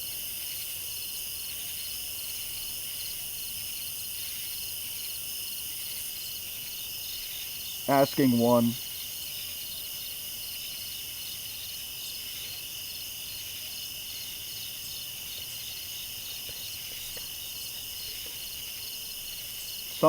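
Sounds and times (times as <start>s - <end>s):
crickets and insects chirping: 0.0s - 20.0s
rapidly pulsing insect trill: 0.0s - 20.0s.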